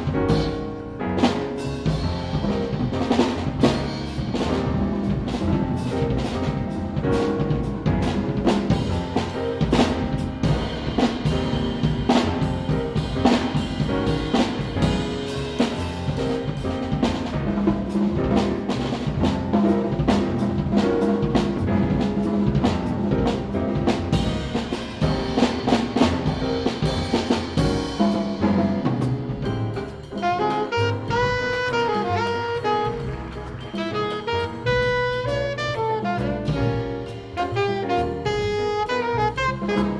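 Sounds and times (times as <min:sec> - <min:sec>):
jazz drum kit: 0:00.0 - 0:39.9
piano: 0:00.0 - 0:39.9
upright bass: 0:00.0 - 0:39.9.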